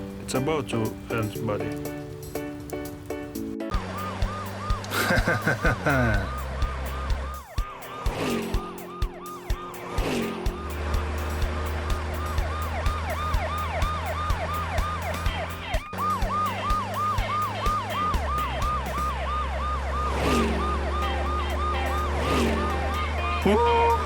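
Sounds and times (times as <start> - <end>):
background music with beat: 0.0 - 19.4, 20.6 - 24.0
siren sweeping: 3.7 - 24.0.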